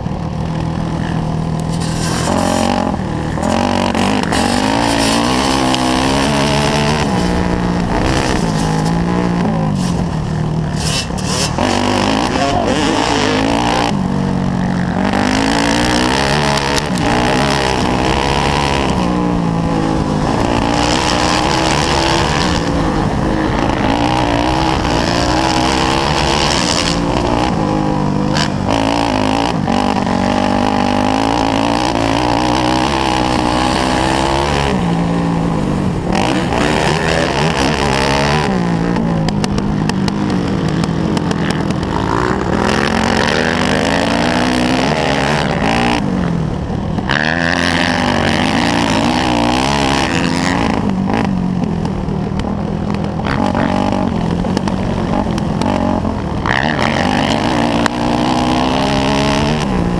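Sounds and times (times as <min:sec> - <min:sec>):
motorcycle engine revving: 0:00.0 - 0:59.9
steady rushing noise: 0:00.0 - 0:59.9.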